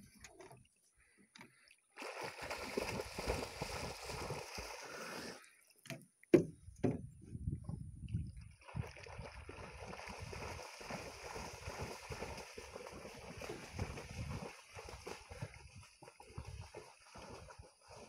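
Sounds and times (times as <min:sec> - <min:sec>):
water lapping and gurgling: 0:00.0 - 0:18.0.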